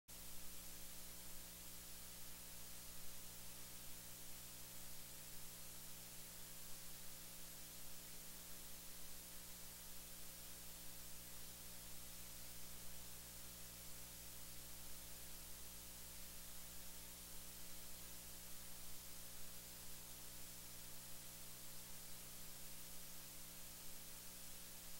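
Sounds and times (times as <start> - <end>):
faint steady hiss: 0.1 - 24.9
low electrical hum: 0.1 - 24.9.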